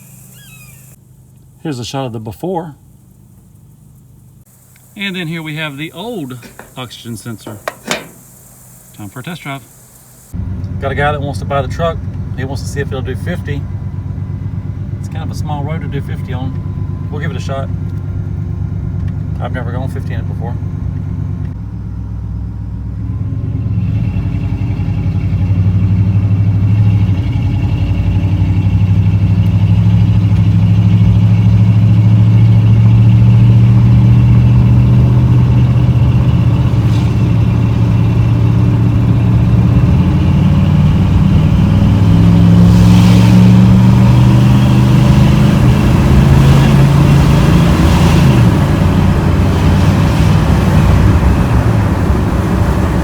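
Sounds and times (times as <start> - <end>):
pickup engine accelerating: 0.0 - 53.0.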